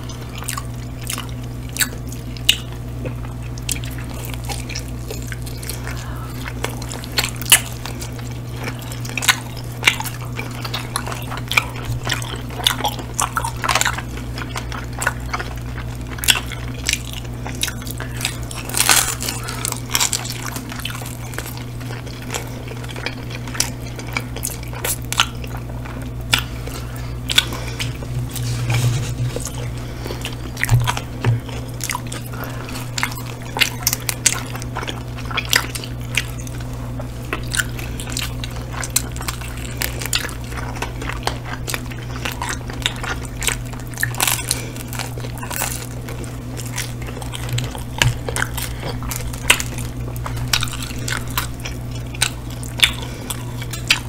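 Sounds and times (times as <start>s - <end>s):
chewing and biting food: 0.0s - 54.0s
steady low hum: 0.0s - 54.0s.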